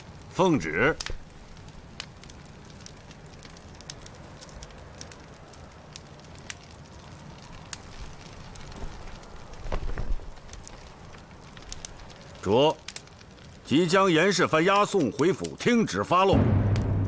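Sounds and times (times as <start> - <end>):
torches crackling and popping: 0.0 - 17.0.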